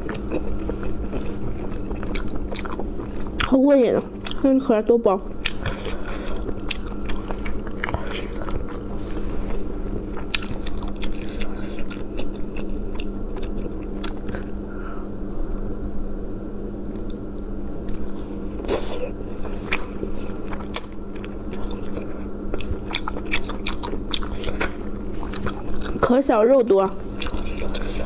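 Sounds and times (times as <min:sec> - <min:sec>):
chewing and sucking shellfish: 0:00.0 - 0:15.7, 0:17.8 - 0:28.0
steady low hum: 0:00.0 - 0:28.0.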